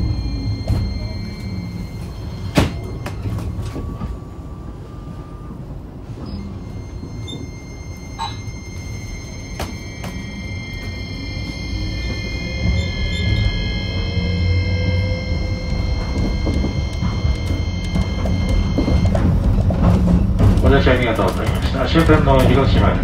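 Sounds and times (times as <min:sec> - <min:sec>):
rising tone: 0:00.0 - 0:05.5, 0:06.2 - 0:20.5
tram rumbling: 0:00.0 - 0:23.0.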